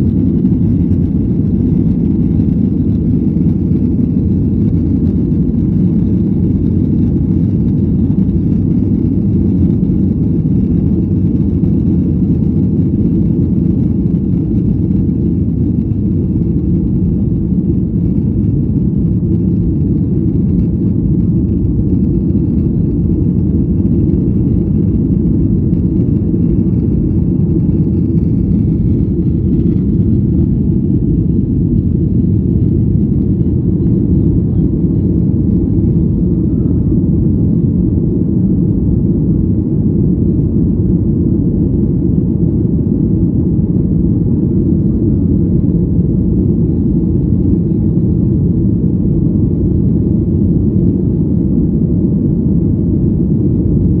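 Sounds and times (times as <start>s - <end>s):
jet engine cabin rumble: 0.0s - 54.0s.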